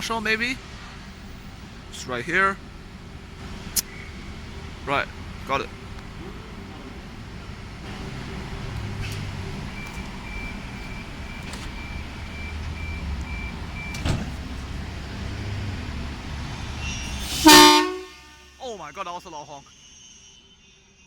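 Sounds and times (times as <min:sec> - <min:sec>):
electric train rumble: 0:00.0 - 0:21.0.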